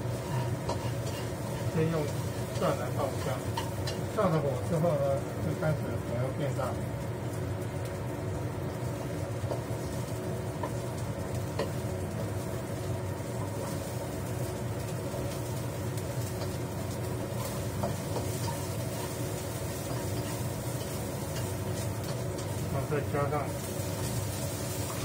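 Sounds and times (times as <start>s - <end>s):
range hood fan humming: 0.0s - 25.0s.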